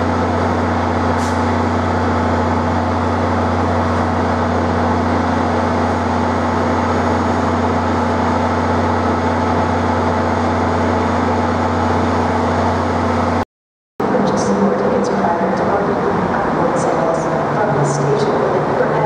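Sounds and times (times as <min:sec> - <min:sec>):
loud mechanical drone: 0:00.0 - 0:13.4, 0:14.0 - 0:19.0.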